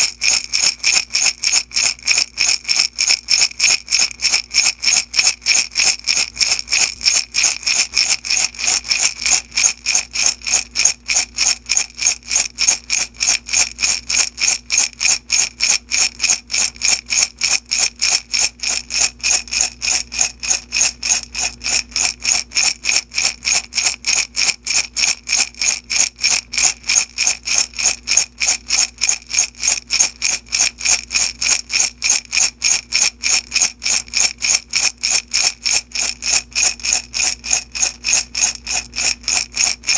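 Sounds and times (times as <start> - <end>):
beads rattling in a glass jar: 0.0 - 39.9.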